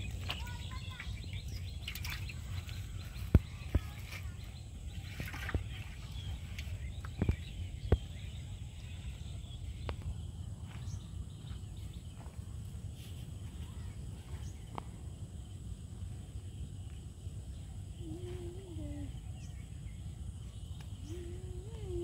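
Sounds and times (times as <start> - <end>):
faint bird chirps: 0.0 - 14.9, 16.4 - 22.0
low outdoor rumble: 0.0 - 22.0.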